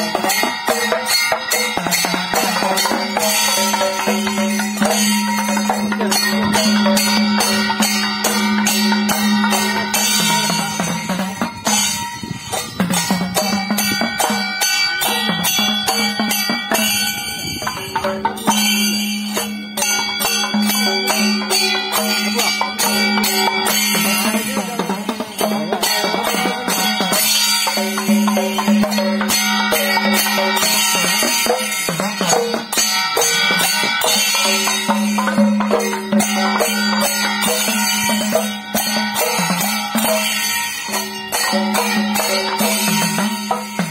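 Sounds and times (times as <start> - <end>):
rapid drum and percussion strokes: 0.0 - 43.9.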